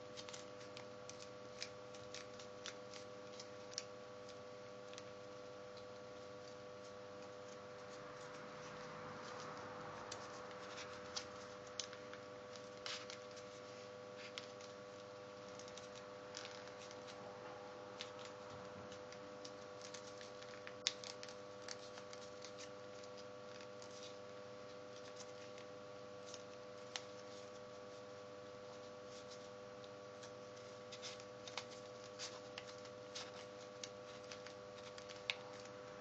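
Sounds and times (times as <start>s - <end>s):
paper crinkling being folded: 0.0s - 36.0s
steady background hum: 0.0s - 36.0s.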